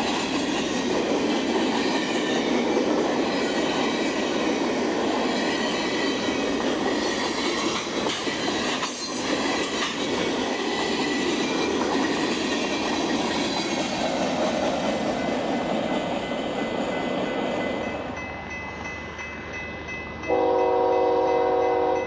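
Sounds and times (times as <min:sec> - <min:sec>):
freight train wheels rolling: 0:00.0 - 0:22.0.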